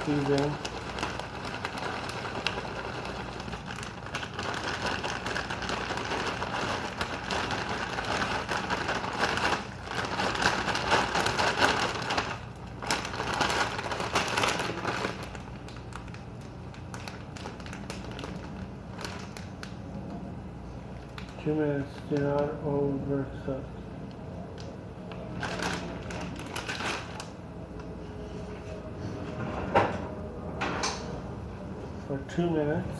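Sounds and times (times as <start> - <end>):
plastic bag crinkling: 0.0 - 23.6, 24.4 - 27.9.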